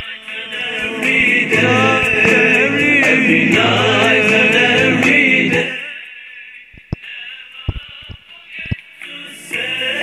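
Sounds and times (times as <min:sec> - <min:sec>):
voices singing in chorus: 0:00.0 - 0:10.0.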